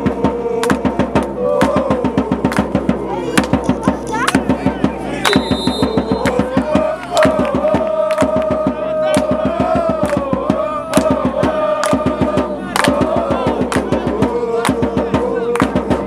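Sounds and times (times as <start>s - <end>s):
fast drumbeat: 0.0s - 16.0s.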